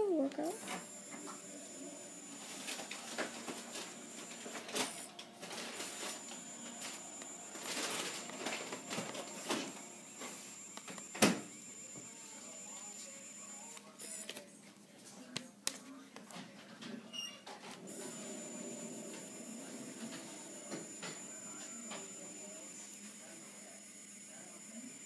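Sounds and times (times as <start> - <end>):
pen motor whine: 0.3 - 14.4, 17.7 - 25.0.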